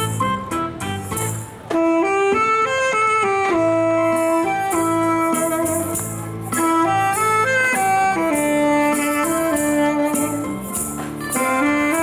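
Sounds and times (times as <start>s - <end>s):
backing track with drums and cymbals: 0.0s - 12.0s
saxophone playing slow melody: 0.0s - 12.0s.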